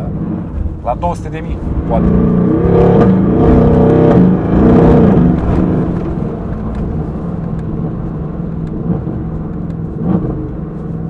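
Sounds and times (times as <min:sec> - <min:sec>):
car engine heard from cabin: 0:00.0 - 0:11.0.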